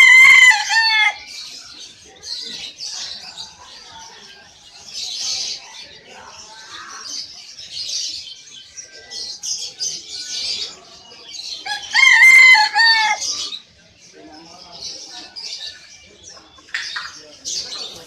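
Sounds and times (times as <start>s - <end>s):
songbirds chirping chorus: 0.0s - 18.0s.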